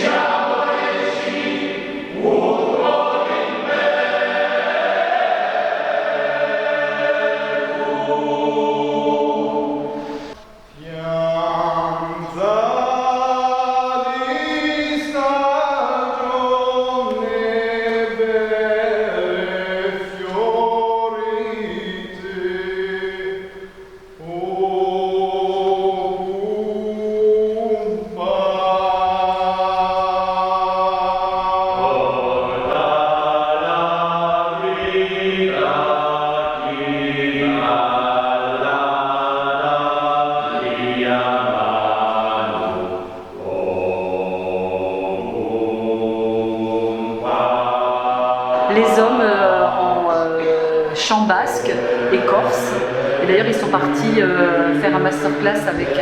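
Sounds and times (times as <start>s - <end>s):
choir singing sustained chords: 0.0s - 56.0s.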